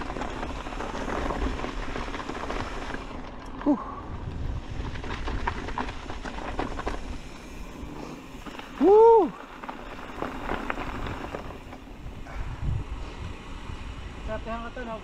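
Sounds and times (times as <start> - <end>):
tyres crunching on gravel: 0.0 - 12.4
bike frame and chain clattering: 0.0 - 12.5.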